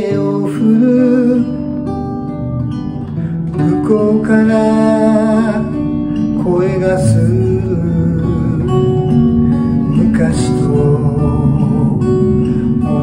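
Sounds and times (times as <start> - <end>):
man singing a folk song: 0.0 - 1.8, 3.2 - 13.0
acoustic guitar: 0.0 - 13.0.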